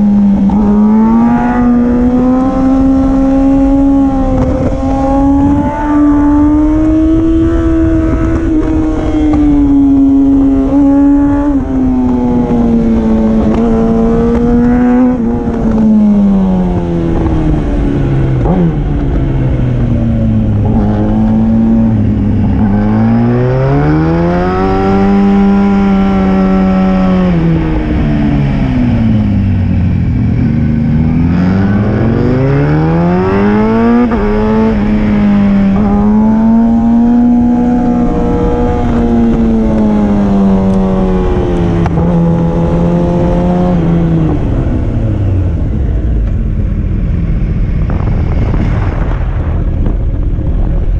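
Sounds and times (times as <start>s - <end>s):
motorcycle engine revving: 0.0s - 50.9s
wind noise: 0.0s - 50.9s.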